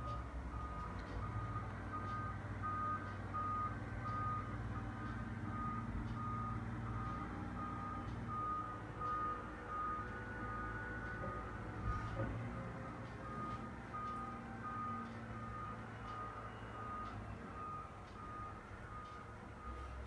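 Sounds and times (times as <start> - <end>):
diesel engine rumble: 0.0 - 20.0
reversing alarm beeping: 0.0 - 20.0.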